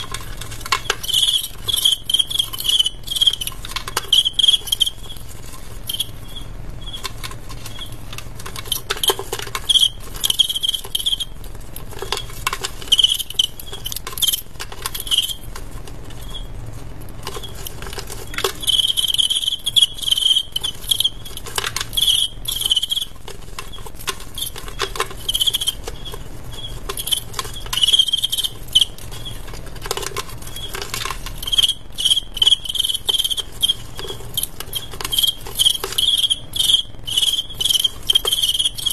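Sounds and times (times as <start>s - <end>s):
crickets chirping: 0.0s - 15.5s, 17.2s - 38.9s.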